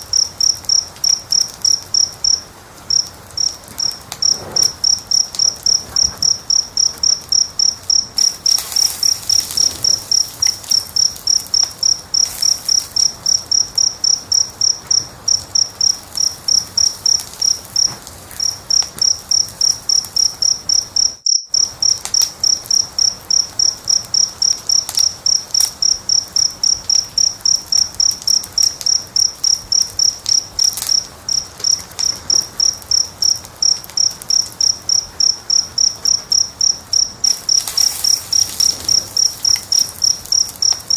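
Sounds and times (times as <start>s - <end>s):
fire pops: 0.0s - 20.9s, 26.7s - 35.1s, 36.9s - 40.9s
crackling fire: 0.0s - 40.9s
cricket chirping: 0.0s - 40.9s.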